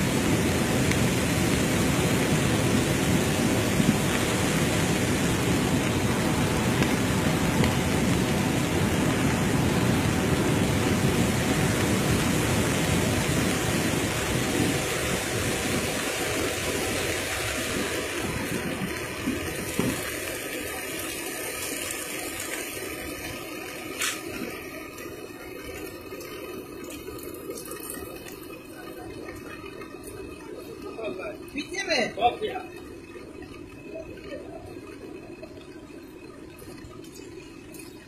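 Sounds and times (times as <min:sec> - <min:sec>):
rushing flood water: 0:00.0 - 0:35.6.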